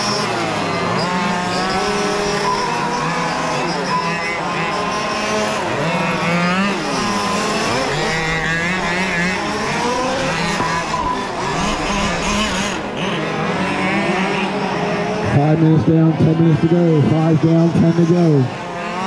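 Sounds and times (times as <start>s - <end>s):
rc car engines revving: 0.0s - 19.0s.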